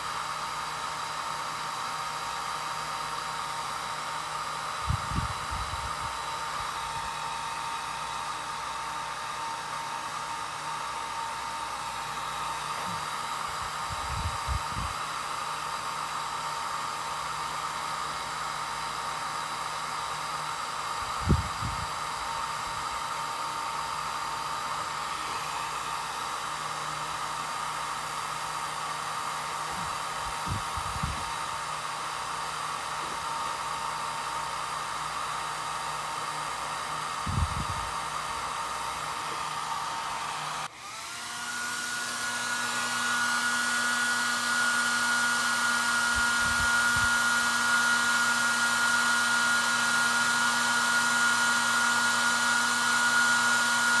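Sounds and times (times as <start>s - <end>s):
hot-air dryer blowing: 0.0s - 54.0s.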